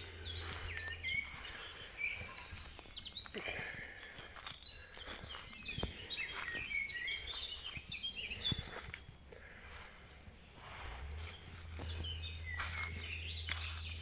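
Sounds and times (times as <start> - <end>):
songbirds singing and chirping: 0.0 - 14.0.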